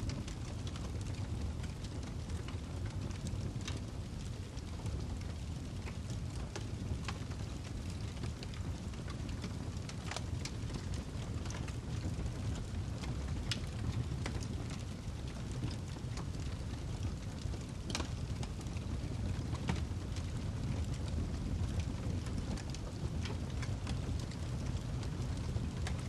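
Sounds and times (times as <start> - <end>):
fire burning: 0.0 - 26.0
fire crackling and popping: 0.0 - 26.0.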